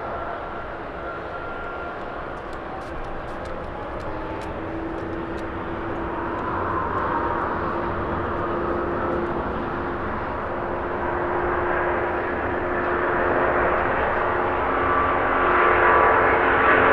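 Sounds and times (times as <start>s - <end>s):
jet engines at takeoff: 0.0s - 16.9s.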